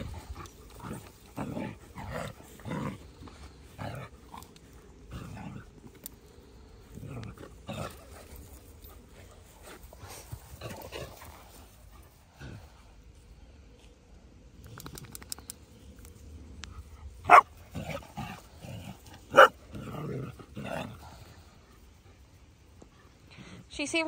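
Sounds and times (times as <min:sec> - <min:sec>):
dogs growling in play: 0:00.0 - 0:13.4, 0:16.4 - 0:23.6.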